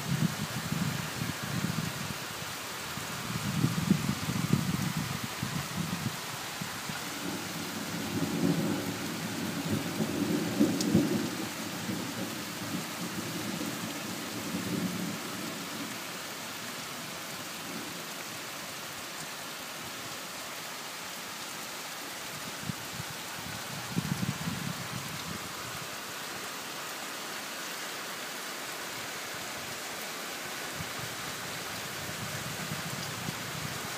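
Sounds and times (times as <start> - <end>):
heavy rain on leaves: 0.0 - 33.9.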